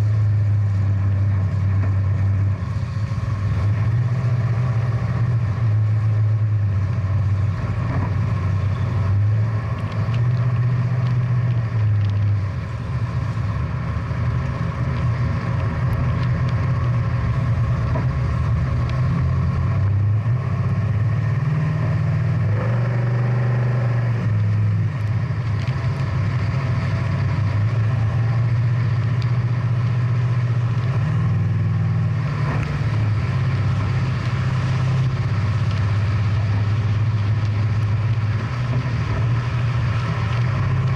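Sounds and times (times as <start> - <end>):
car engine rumbling at low revs: 0.0 - 40.9.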